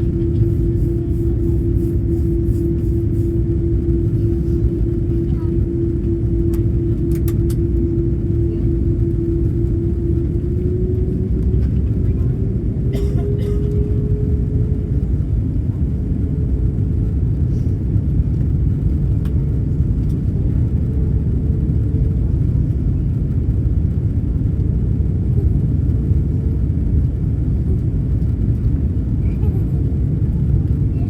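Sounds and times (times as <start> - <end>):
airliner cabin engine rumble: 0.0 - 31.0
faint steady hum: 0.0 - 31.0.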